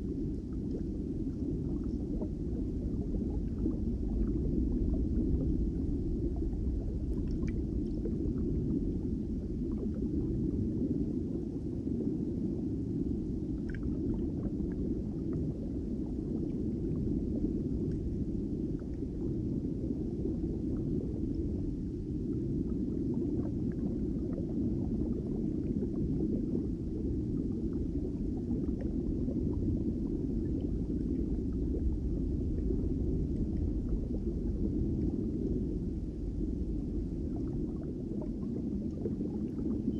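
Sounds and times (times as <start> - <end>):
muffled underwater rumble: 0.0 - 39.9.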